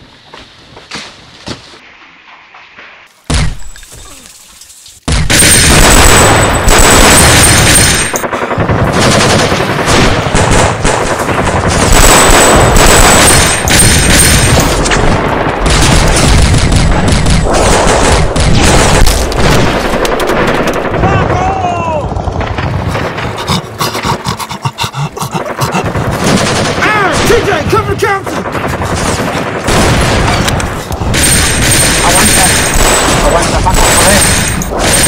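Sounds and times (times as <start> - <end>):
rapid automatic gunfire barrage: 5.2 - 23.8, 25.4 - 35.0.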